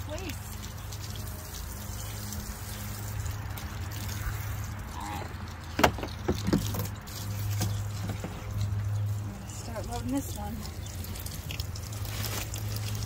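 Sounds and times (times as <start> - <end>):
hose water spraying and splashing: 0.0 - 13.0.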